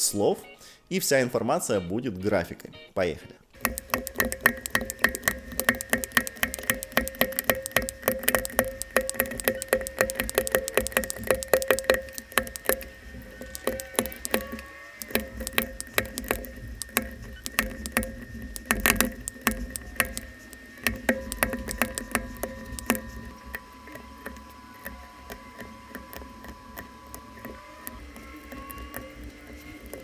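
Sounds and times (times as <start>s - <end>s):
mechanical keyboard typing: 3.6s - 30.0s.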